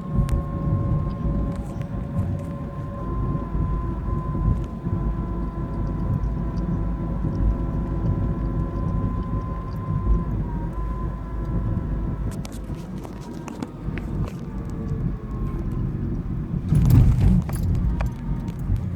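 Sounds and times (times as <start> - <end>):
car engine and road rumble: 0.0 - 18.9
high-pitched whine: 0.0 - 18.9.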